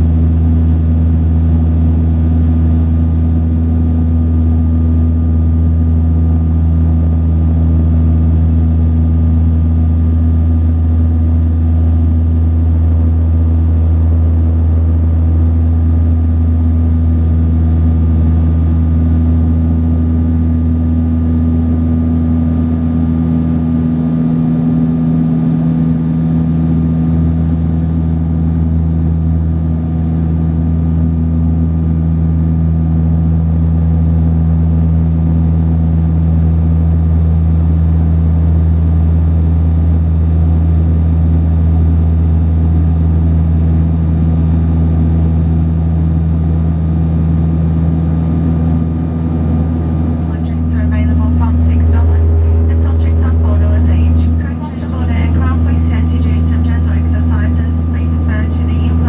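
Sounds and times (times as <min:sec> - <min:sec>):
turboprop propeller drone: 0:00.0 - 0:59.0.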